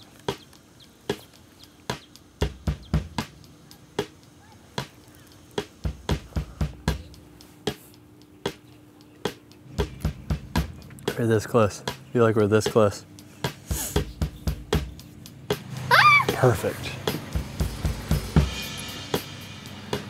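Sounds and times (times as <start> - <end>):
faint steady low hum: 0.0 - 19.6.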